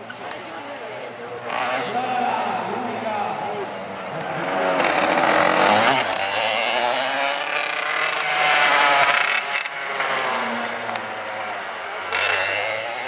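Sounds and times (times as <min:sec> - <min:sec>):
go-kart engine revving: 0:00.0 - 0:13.0.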